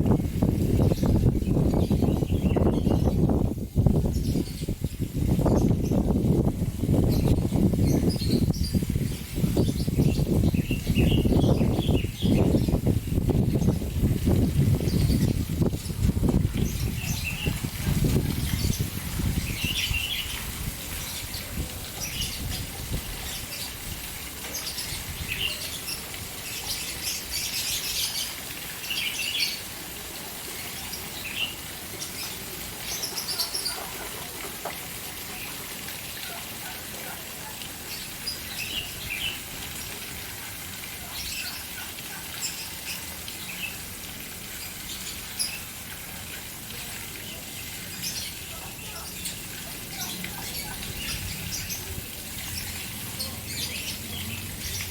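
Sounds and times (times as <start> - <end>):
caged birds chirping: 0.0 - 54.9
fountain water splashing: 0.0 - 54.9.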